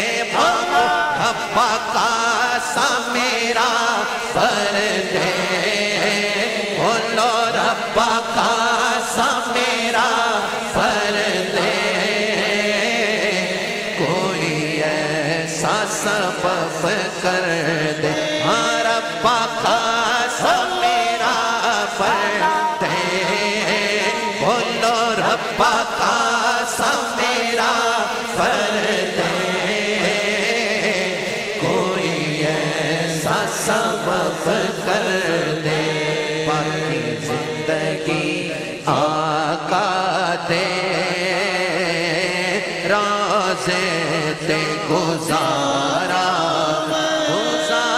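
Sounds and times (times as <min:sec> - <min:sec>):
man chanting devotional poem: 0:00.0 - 0:47.9.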